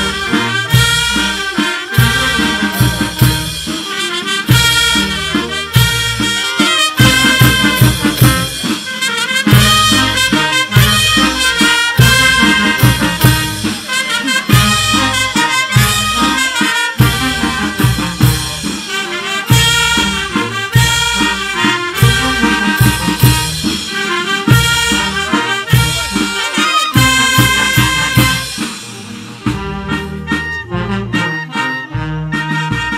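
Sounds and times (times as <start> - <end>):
bass drum: 0.0 - 13.8, 14.4 - 31.3
brass band playing a waltz: 0.0 - 32.9
snare drum: 0.0 - 32.9.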